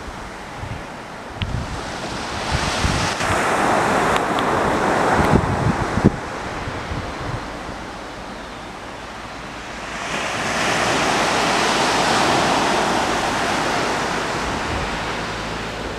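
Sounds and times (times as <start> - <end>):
sea waves washing in: 0.0 - 15.9.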